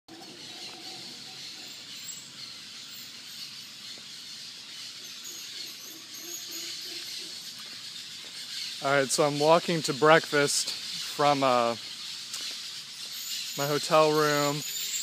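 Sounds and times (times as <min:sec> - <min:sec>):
steady high hiss: 0:01.1 - 0:15.0.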